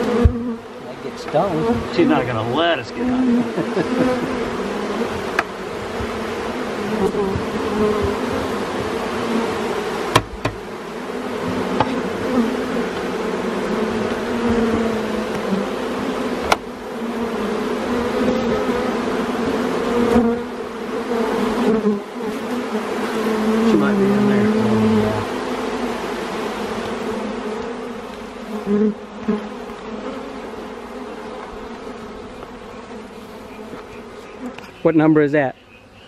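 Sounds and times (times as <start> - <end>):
honey bees buzzing: 0.0 - 36.0.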